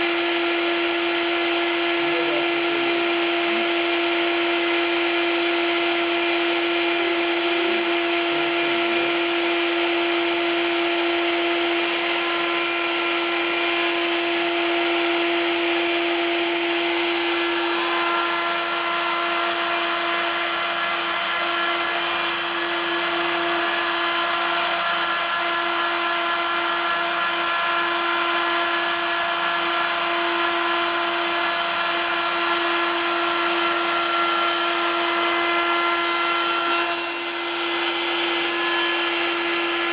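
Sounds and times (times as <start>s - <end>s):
cutting wood noise: 0.0s - 39.9s
milling spindle whine: 0.0s - 39.9s.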